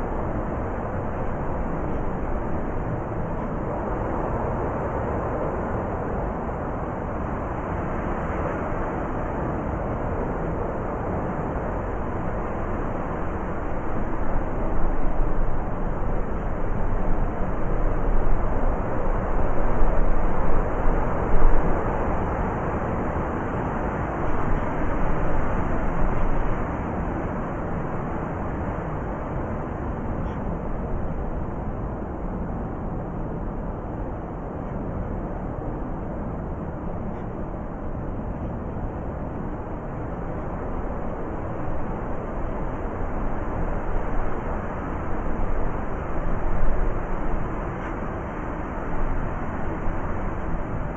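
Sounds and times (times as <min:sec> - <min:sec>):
blizzard wind blowing: 0:00.0 - 0:50.9.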